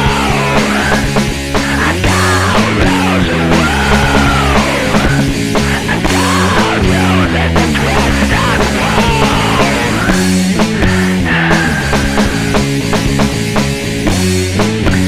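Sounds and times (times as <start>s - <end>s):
heavy distorted rock music: 0.0s - 15.0s.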